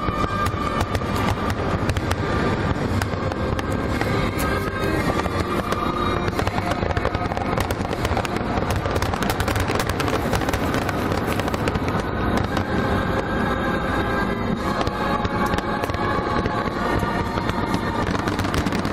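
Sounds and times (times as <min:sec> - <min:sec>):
fireworks bursting: 0:00.0 - 0:18.9.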